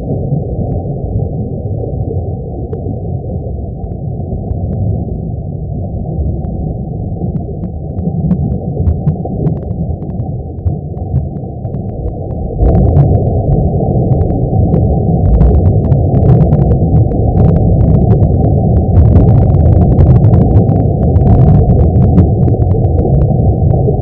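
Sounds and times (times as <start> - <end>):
faint crackles: 0.0 - 5.0, 6.3 - 24.0
deep rumbling drone: 0.0 - 24.0.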